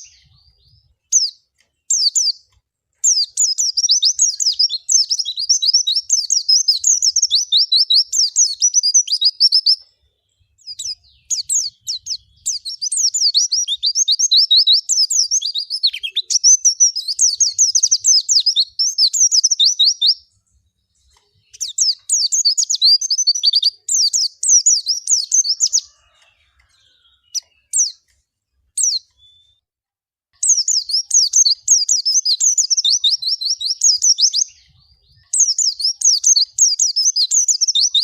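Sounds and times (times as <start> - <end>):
bird twittering song: 0.0 - 29.6, 30.4 - 38.0.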